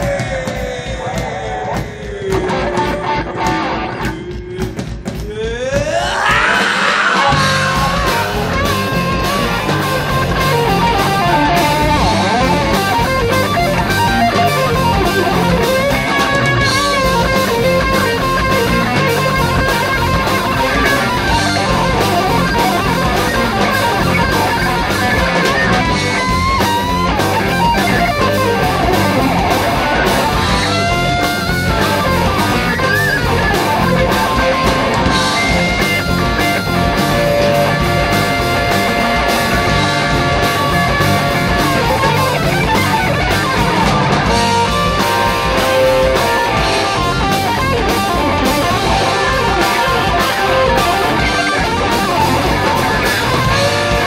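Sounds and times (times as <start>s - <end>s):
bass guitar: 0.0s - 54.0s
drums: 0.0s - 54.0s
electric guitar solo: 6.4s - 54.0s.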